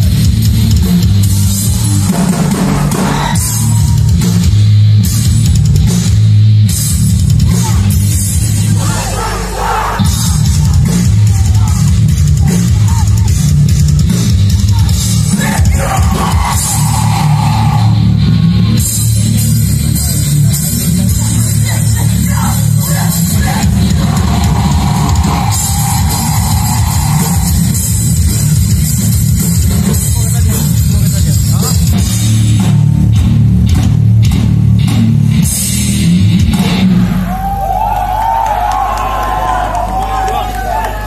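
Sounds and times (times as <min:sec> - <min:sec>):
death metal band playing live: 0:00.0 - 0:39.6.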